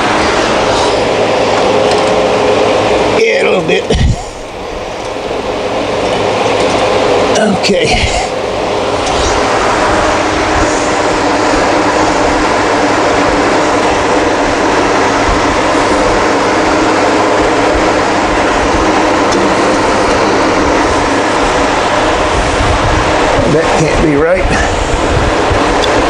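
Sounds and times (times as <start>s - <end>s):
low hum: 0.0s - 26.0s
machine running: 0.0s - 26.0s.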